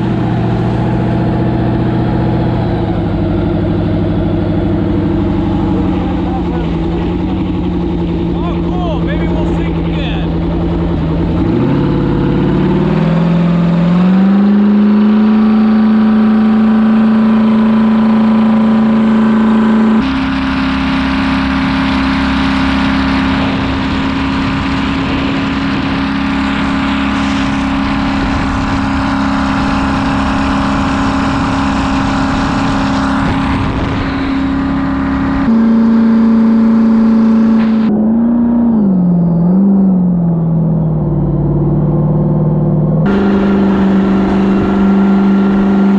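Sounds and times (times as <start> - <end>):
jet ski engine running hard: 0.0 - 37.9, 43.0 - 45.9.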